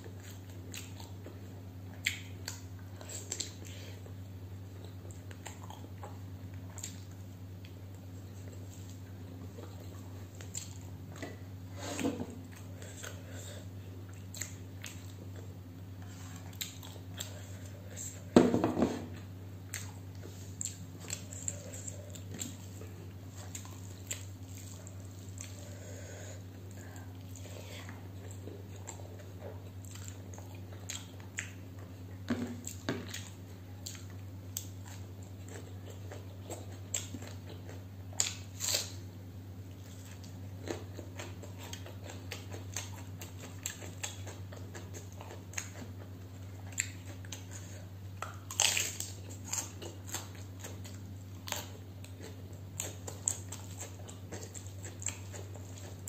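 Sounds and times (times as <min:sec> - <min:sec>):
chewing and wet mouth sounds: 0:00.0 - 0:11.5, 0:12.3 - 0:18.3, 0:19.1 - 0:39.0, 0:39.7 - 0:56.0
steady low hum: 0:00.0 - 0:56.0.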